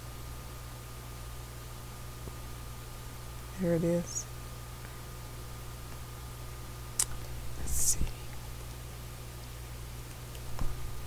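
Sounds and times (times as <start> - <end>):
low electrical hum with hiss: 0.0 - 11.0.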